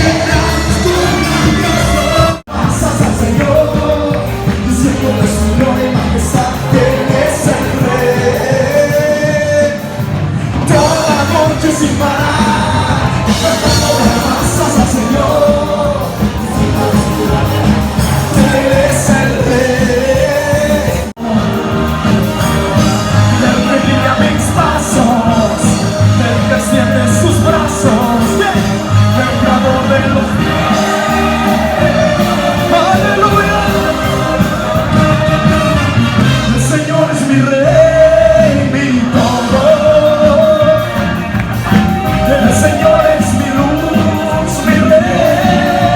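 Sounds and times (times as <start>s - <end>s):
person singing: 0.0s - 45.9s
worship band music: 0.0s - 45.9s.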